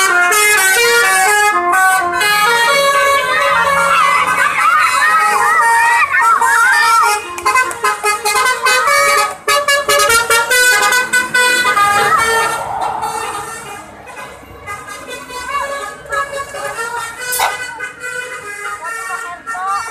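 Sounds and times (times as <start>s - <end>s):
multi-tone bus horn tune: 0.0s - 19.9s.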